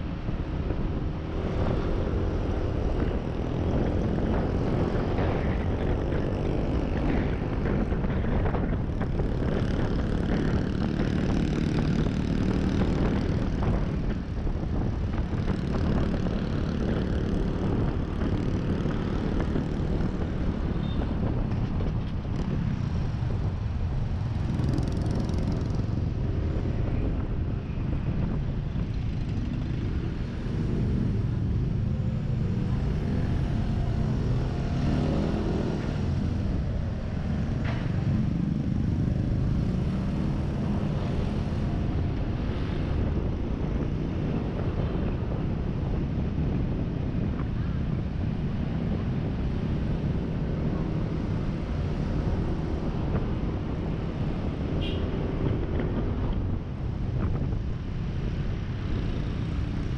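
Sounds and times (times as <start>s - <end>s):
road and wind noise: 0.0s - 59.9s.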